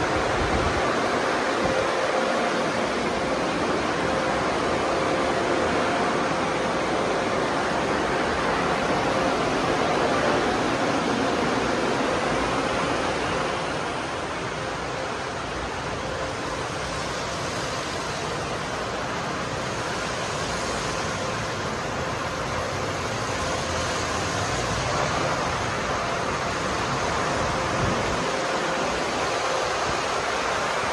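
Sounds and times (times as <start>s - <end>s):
car wash brushes and spray: 0.0s - 30.9s
faint steady hum: 0.0s - 30.9s.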